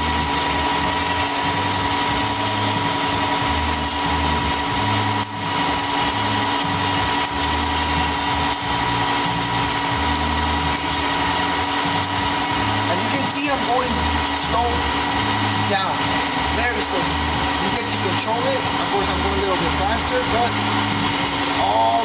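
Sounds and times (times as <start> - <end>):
bandsaw humming and whining: 0.0 - 22.0.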